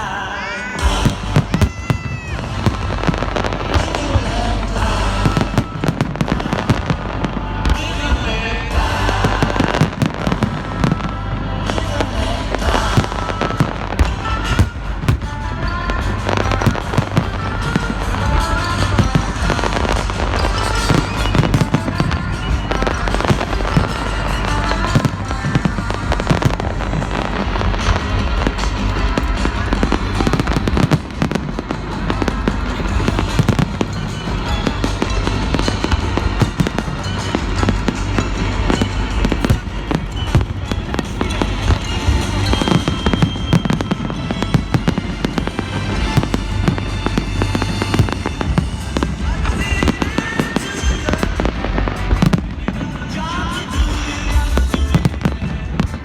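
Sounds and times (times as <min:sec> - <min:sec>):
fireworks bangs and crackles: 0:00.0 - 0:56.0
music playing: 0:00.0 - 0:56.0.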